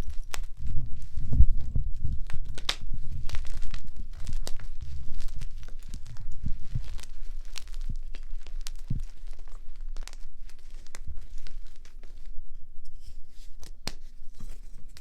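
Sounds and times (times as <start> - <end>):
chalk crunching and crackling: 0.0 - 15.0
low rumble of handling: 0.0 - 15.0.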